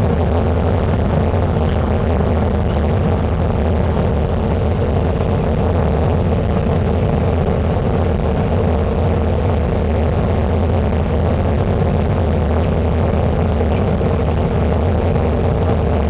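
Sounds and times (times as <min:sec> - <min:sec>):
constant low hum: 0:00.0 - 0:16.0
jet engines droning: 0:00.0 - 0:16.0
rushing air: 0:00.0 - 0:16.0.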